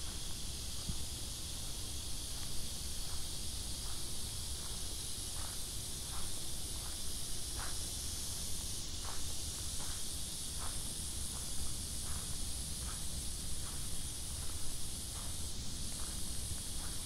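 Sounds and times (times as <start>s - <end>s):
insect chorus hissing: 0.0s - 17.0s.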